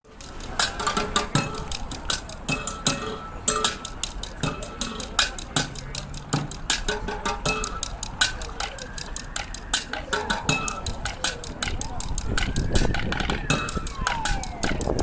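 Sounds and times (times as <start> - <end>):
sharp metallic percussion strikes: 0.0 - 15.0.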